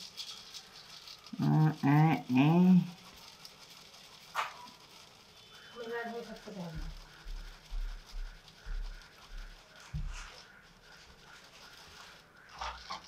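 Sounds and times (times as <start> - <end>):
oats pattering into a jar: 0.0 - 13.0.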